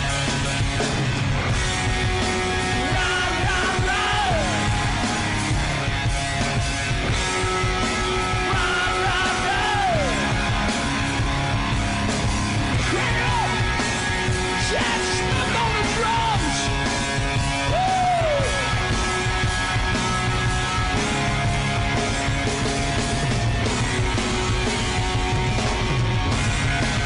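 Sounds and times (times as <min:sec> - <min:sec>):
hard rock band playing: 0:00.0 - 0:27.0.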